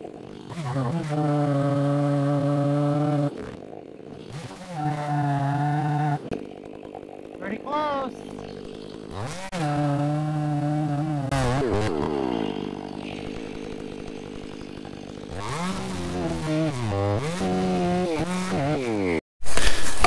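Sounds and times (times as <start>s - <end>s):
chainsaw revving and cutting: 0.0s - 20.0s.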